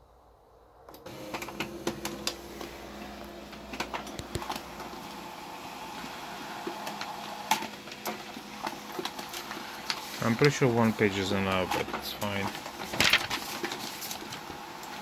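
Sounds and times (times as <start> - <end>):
paper feed clicks and ticks: 1.0 - 5.2, 5.9 - 15.0
laser printer whirring: 1.0 - 15.0.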